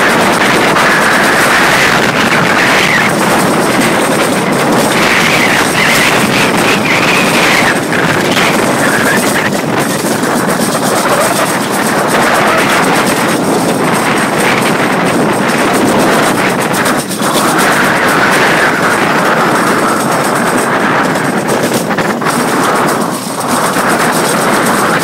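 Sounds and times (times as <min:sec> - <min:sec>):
sled rumbling on metal chute: 0:00.0 - 0:25.0
wavering high whine: 0:00.0 - 0:25.0
wind buffeting microphone: 0:00.0 - 0:25.0.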